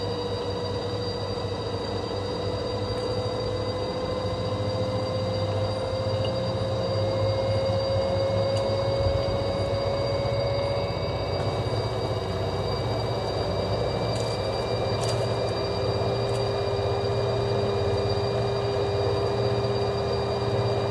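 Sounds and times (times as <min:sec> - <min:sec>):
washing machine spinning: 0:00.0 - 0:20.9.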